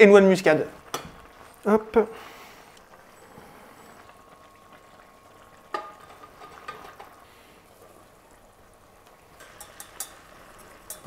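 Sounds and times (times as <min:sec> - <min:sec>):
butter sizzling in saucepan: 0:00.0 - 0:11.0.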